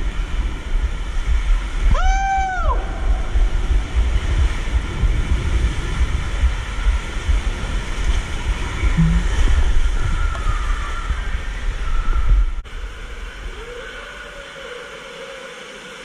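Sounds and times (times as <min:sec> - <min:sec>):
water rushing: 0:00.0 - 0:12.0, 0:12.7 - 0:16.0
rumbling buffeting on microphone: 0:00.0 - 0:14.6
rider sliding down water slide: 0:00.0 - 0:16.0.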